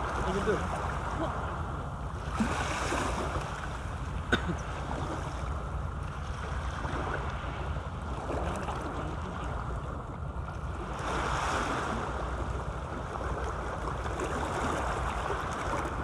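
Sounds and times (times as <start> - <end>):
small waves lapping: 0.0 - 16.0.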